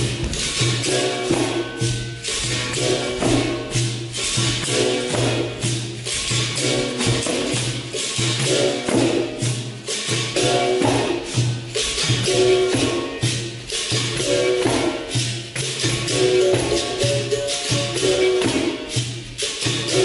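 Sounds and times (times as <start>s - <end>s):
tambourine jingling: 0.0s - 20.0s.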